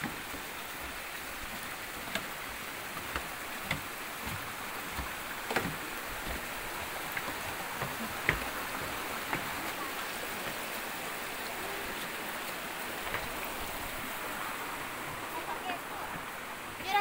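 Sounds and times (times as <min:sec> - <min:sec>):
footsteps on wooden boardwalk: 0:00.0 - 0:17.0
stream flowing over rocks: 0:00.0 - 0:17.0.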